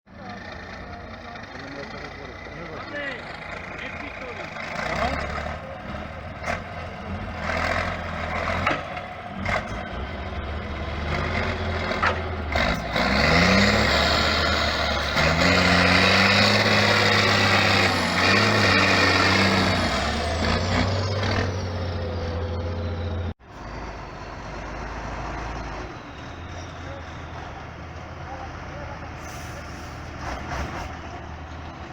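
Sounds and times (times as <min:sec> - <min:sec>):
diesel truck engine revving: 0:00.1 - 0:31.9.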